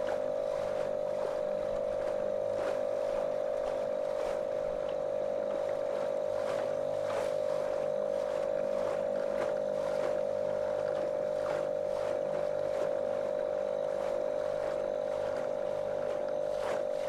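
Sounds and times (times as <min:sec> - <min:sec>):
outboard motor running: 0:00.0 - 0:17.0
water splashing against hull: 0:00.0 - 0:17.0.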